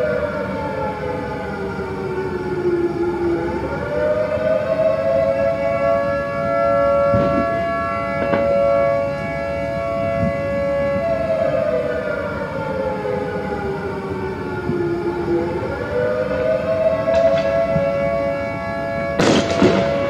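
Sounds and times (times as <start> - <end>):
two-tone air raid siren: 0.0 - 20.0.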